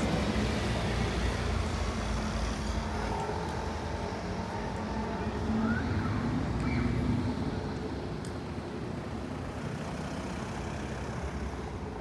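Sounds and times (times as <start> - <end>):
car rumbling over cobblestones: 0.0 - 12.0
town street background noise: 0.0 - 12.0.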